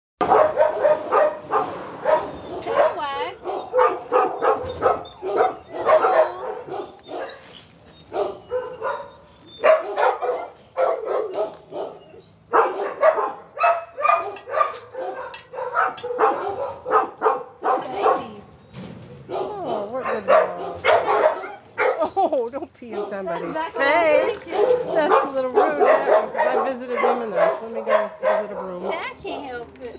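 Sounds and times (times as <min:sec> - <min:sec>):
dogs barking: 0:00.2 - 0:18.5, 0:19.2 - 0:22.2, 0:22.8 - 0:29.7.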